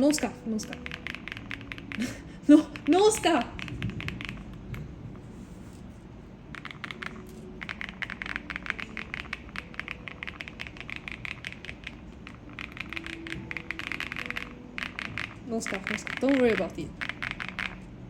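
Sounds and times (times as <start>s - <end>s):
mechanical keyboard typing: 0.0s - 4.9s, 6.5s - 17.9s.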